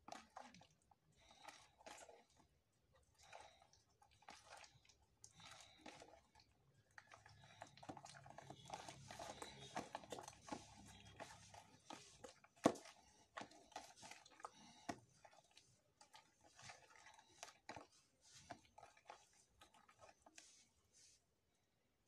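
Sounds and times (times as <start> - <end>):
wet squelches of batter mixing: 0.0 - 22.0.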